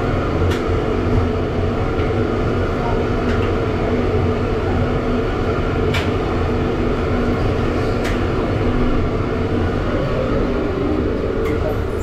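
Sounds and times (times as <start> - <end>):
ship engines droning: 0.0 - 12.0.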